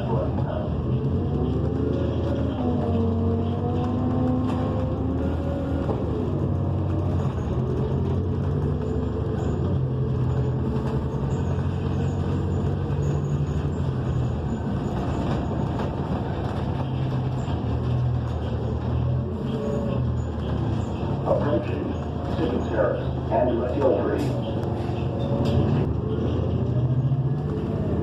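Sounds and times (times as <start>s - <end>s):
bus engine running: 0.0s - 28.0s
road noise: 0.0s - 28.0s.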